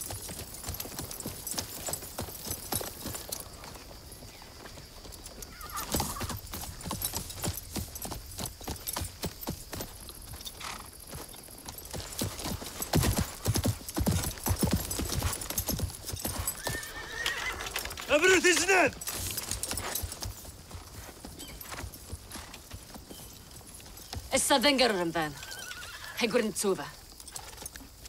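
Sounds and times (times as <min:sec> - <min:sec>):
horses' hooves on hard ground: 0:00.0 - 0:28.0.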